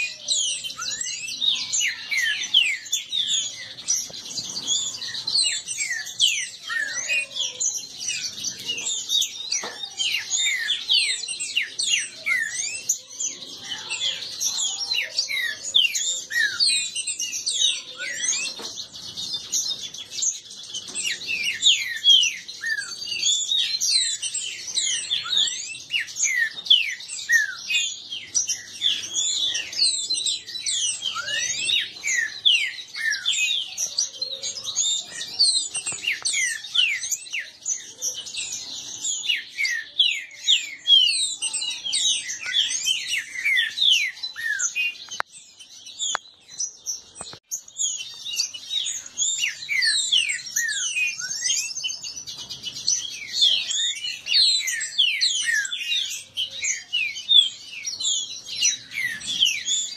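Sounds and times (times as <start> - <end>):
birds singing and chattering: 0.0 - 59.9.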